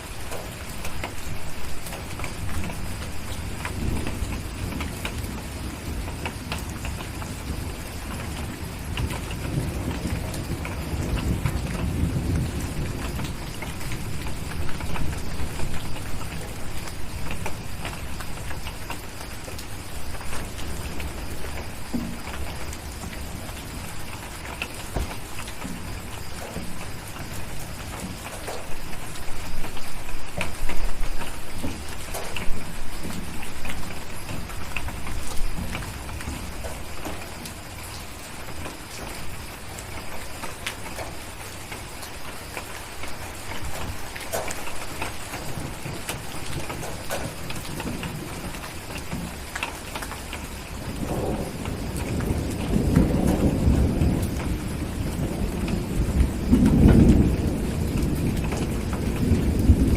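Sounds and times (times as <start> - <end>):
steady rain: 0.0 - 59.9
thunder rumbling: 0.0 - 59.9.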